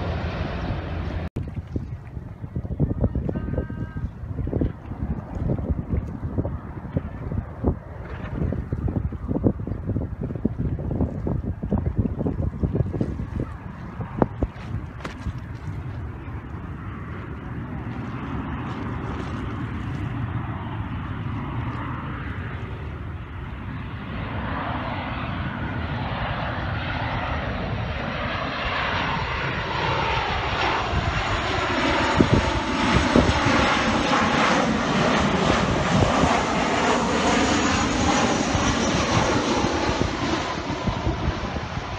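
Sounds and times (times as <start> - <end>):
jet airliner engines overhead: 0.0 - 41.9.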